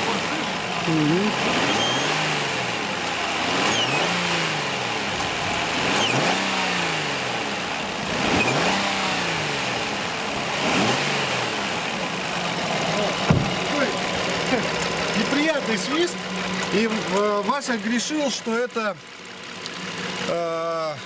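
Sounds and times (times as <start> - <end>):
car engine revving: 0.0 - 20.4.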